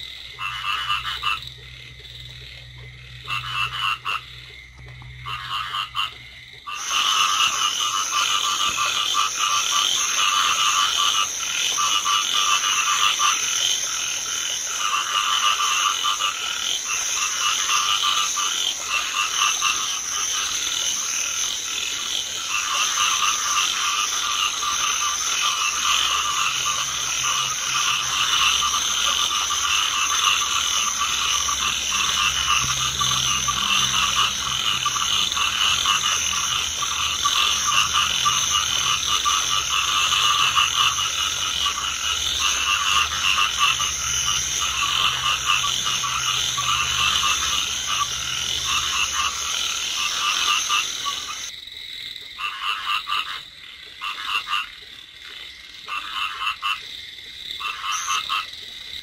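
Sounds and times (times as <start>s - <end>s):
chorus of frogs croaking: 0.0s - 59.0s.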